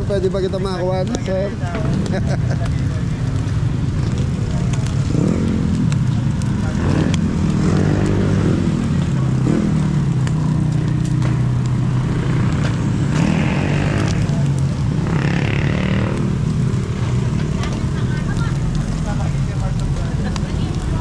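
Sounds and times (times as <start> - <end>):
street noise: 0.0 - 21.0.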